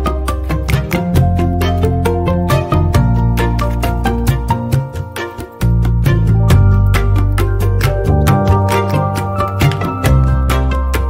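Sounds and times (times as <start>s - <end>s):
background music with percussive beat: 0.0s - 11.0s.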